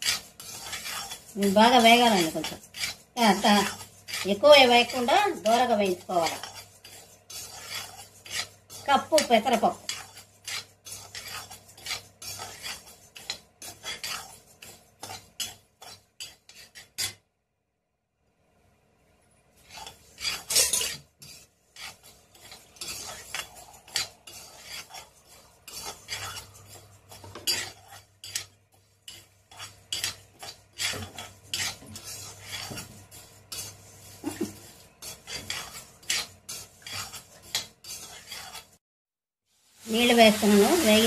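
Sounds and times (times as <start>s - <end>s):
spoon scraping lentils in pan: 0.0s - 17.3s, 19.4s - 38.8s, 39.6s - 41.0s.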